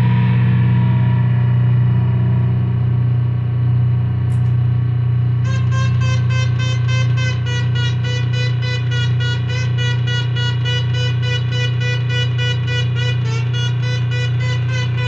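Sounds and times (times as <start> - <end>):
low buzzing drone: 0.0 - 15.0.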